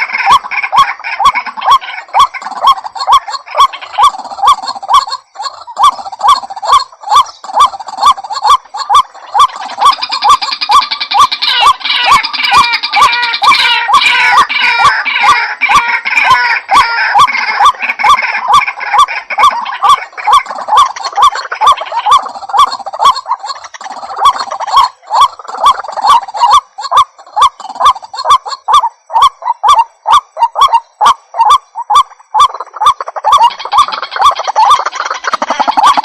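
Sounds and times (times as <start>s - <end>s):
waterhen harsh calls: 0.0s - 36.0s.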